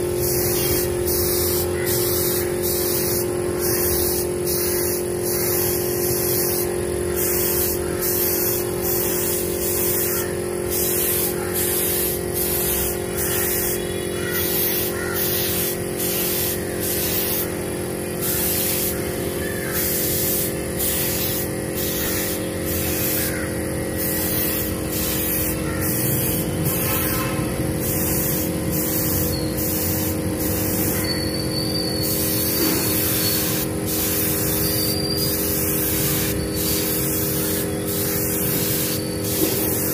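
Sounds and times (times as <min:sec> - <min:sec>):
air compressor humming: 0:00.0 - 0:39.9
spray gun hissing in bursts: 0:00.0 - 0:39.9.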